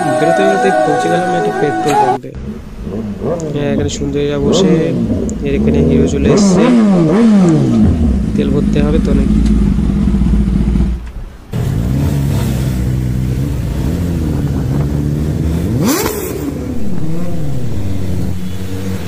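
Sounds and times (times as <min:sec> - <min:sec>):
motorcycle engine revving: 0:02.4 - 0:19.0.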